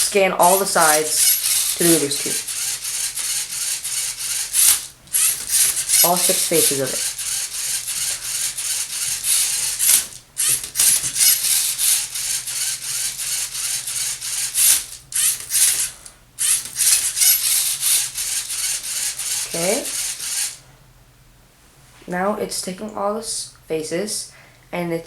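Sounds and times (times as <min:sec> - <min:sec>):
robot servo motors whirring: 0:00.0 - 0:20.6.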